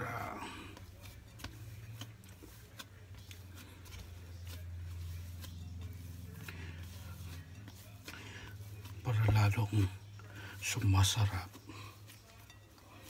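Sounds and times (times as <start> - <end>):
low steady hum: 0.0 - 13.0
scraper scraping dough in glass bowl: 0.0 - 13.0.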